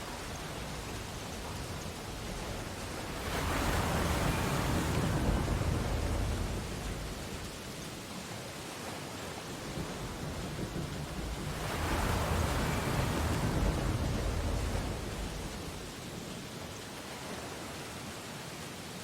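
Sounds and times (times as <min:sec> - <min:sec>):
surf hiss: 0:00.0 - 0:19.0
wave washing on beach: 0:00.0 - 0:19.0.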